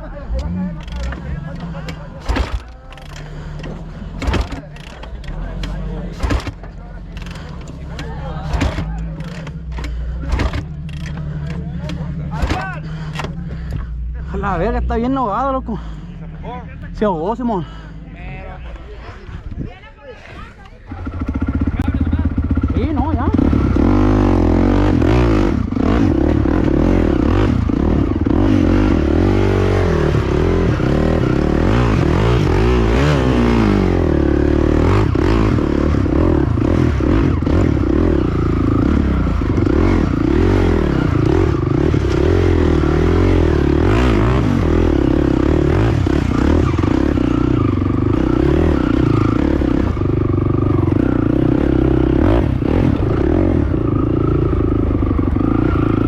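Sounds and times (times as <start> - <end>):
atv engine revving: 0.0 - 18.3, 20.8 - 56.0.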